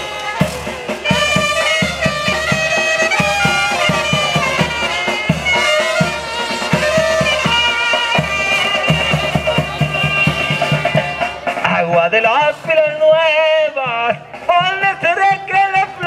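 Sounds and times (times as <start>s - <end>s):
quick drum beat: 0.0s - 16.0s
wind instruments melody: 0.0s - 16.0s.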